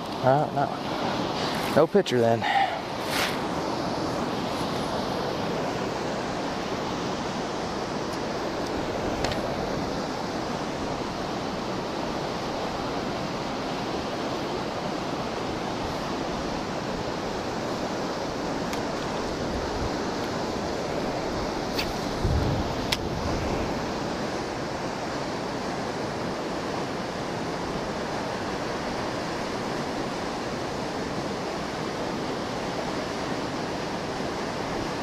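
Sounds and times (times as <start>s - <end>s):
flowing water rushing: 0.0s - 35.0s.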